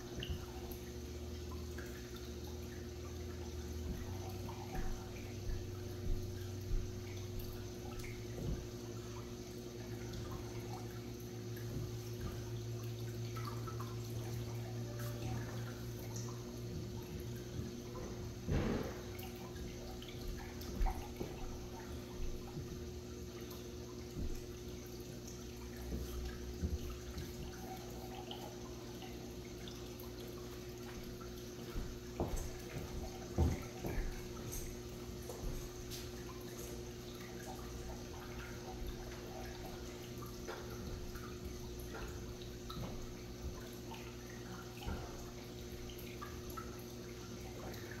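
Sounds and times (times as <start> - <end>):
low pump hum: 0.0 - 48.0
water drips and splashes: 0.0 - 48.0
water trickling: 0.0 - 48.0.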